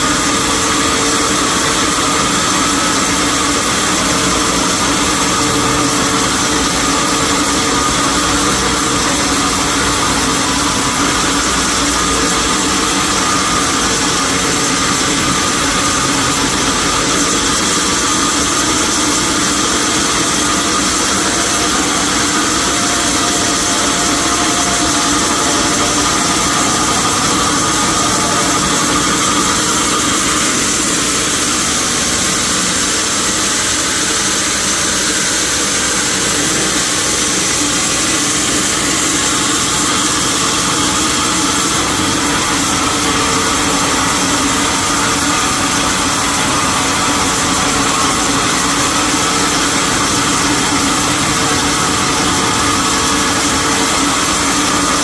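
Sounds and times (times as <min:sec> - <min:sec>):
sawmill machinery droning: 0:00.0 - 0:55.0.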